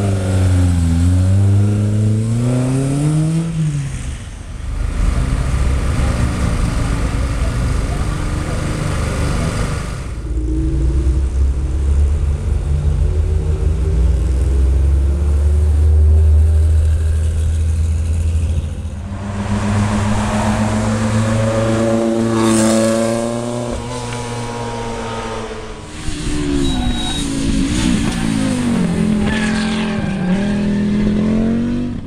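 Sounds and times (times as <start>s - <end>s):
rally car engine accelerating: 4.7s - 32.0s.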